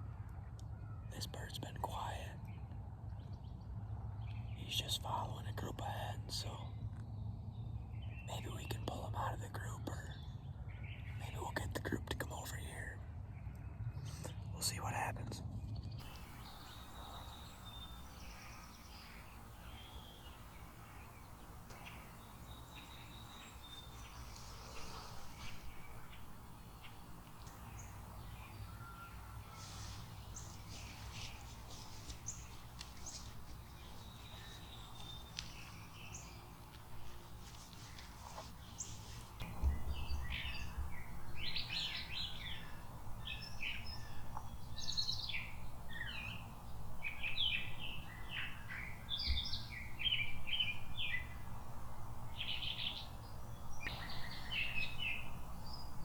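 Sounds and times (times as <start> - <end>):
songbirds chirping and singing: 1.0 - 2.6, 7.6 - 13.0, 16.0 - 56.0.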